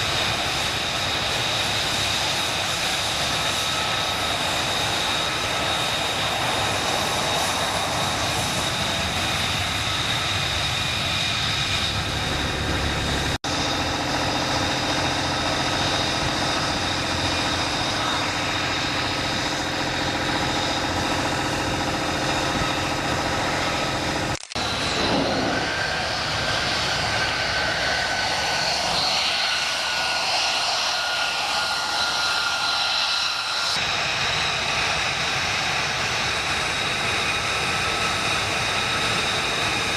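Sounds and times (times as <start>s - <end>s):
jet engine running loud: 0.0s - 39.9s.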